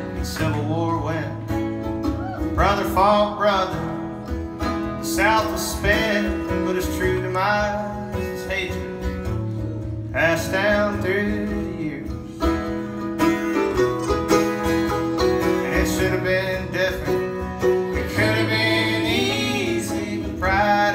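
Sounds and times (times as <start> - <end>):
acoustic guitar chords: 0.0 - 20.9
mandolin plucked notes: 0.0 - 20.9.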